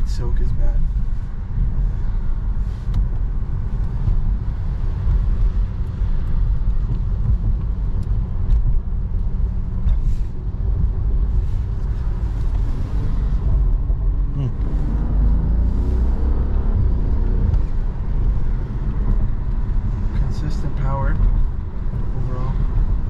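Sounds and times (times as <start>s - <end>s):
car engine cruising: 0.0s - 23.0s
tyres on wet road: 0.0s - 23.0s.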